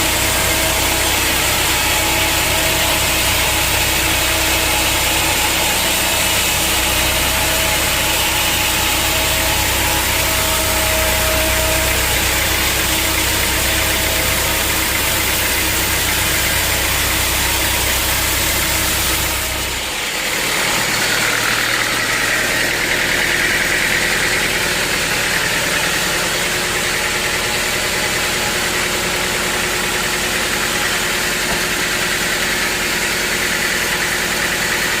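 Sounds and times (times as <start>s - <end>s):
high machine whine: 0.0s - 35.0s
sawmill machinery rumbling: 0.0s - 35.0s.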